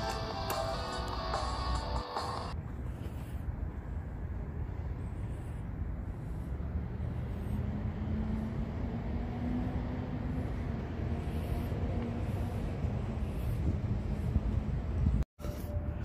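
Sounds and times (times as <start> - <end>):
low traffic rumble: 0.0 - 16.0
vehicle engine hum: 0.0 - 16.0.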